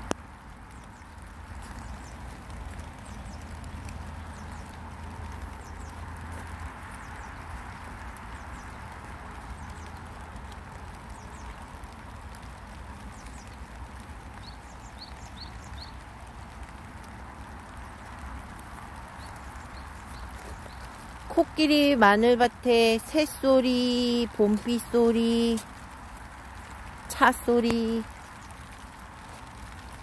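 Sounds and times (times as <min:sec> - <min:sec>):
light rain falling: 0:00.0 - 0:30.0
low rumble of car traffic: 0:00.0 - 0:30.0.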